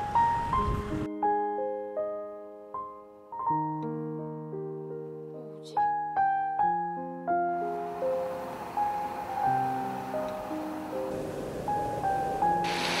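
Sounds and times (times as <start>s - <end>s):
slow solo piano melody: 0.0s - 13.0s.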